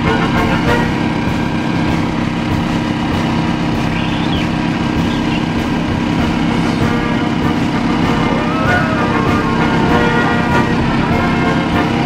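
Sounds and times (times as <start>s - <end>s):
diesel tractor engine under load: 0.0s - 12.0s.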